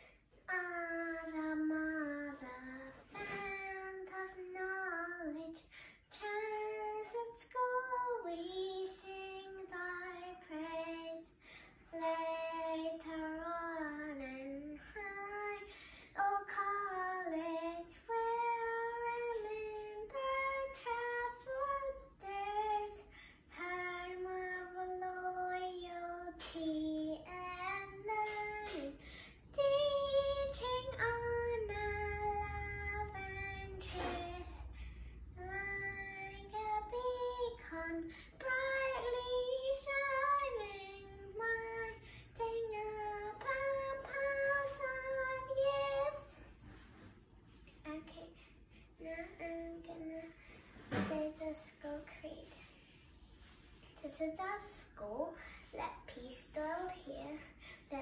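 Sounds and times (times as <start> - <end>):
girl singing: 0.0 - 58.0.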